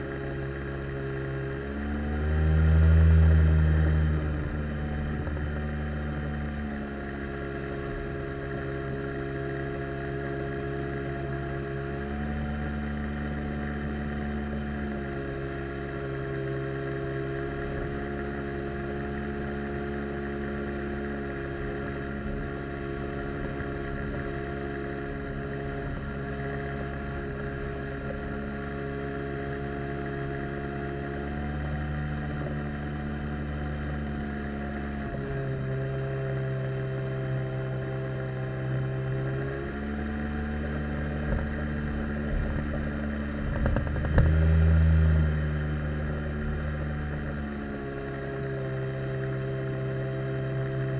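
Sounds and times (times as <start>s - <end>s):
outboard jet motor cruising: 0.0s - 50.9s.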